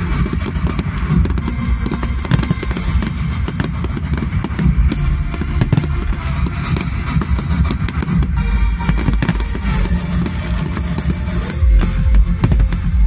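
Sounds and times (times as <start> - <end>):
fireworks bangs and crackles: 0.0 - 13.0
show music with heavy drums: 0.0 - 13.0.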